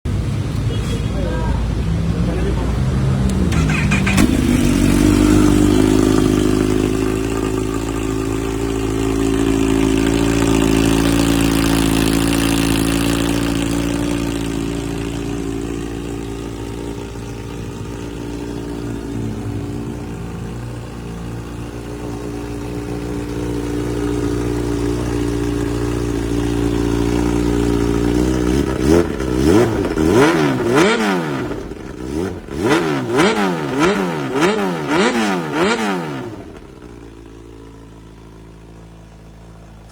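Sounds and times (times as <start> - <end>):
motorcycle engine idling and revving: 0.1 - 39.9.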